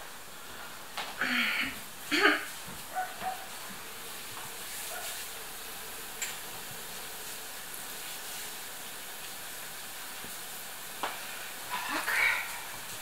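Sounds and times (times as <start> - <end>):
dough frying in hot oil: 0.0 - 13.0.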